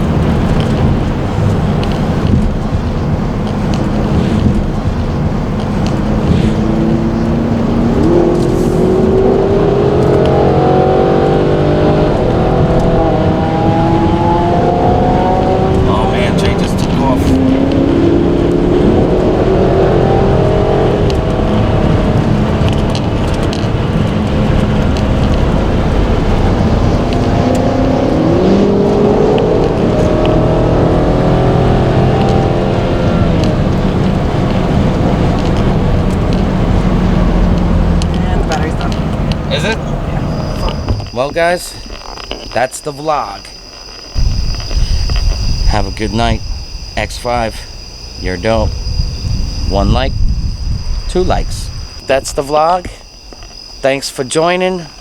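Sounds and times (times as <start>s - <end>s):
car engine accelerating: 0.0s - 42.5s, 43.9s - 55.0s
road noise: 0.0s - 55.0s.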